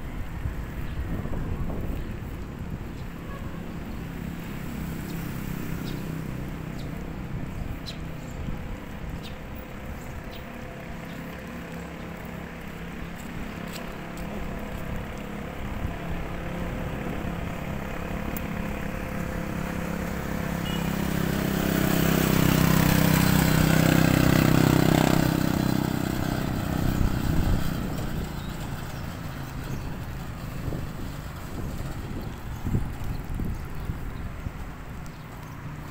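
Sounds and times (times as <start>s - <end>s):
road noise: 0.0s - 35.9s
vehicle engine hum: 0.0s - 35.9s.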